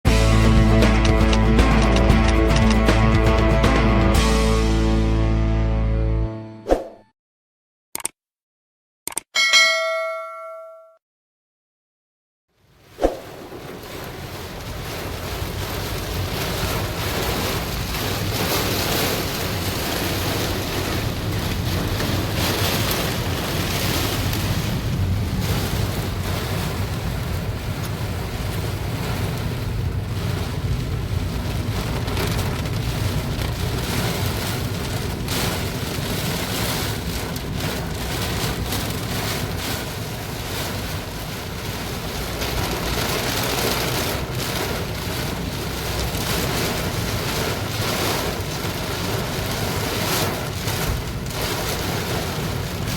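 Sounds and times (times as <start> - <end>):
heavy rain pouring: 0.1 - 4.8, 12.7 - 52.9.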